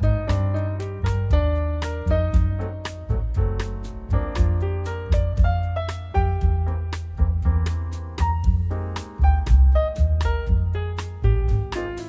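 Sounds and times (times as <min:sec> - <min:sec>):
bass: 0:00.0 - 0:12.0
piano melody: 0:00.0 - 0:12.0.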